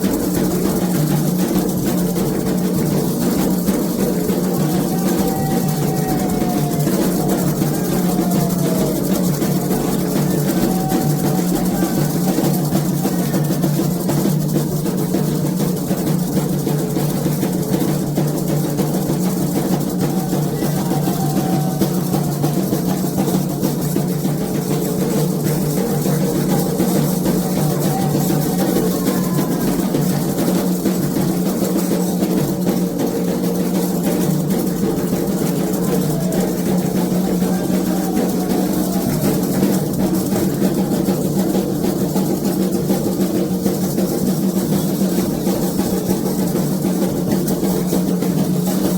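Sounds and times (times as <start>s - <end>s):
hand drums playing fast rhythm: 0.0s - 48.9s.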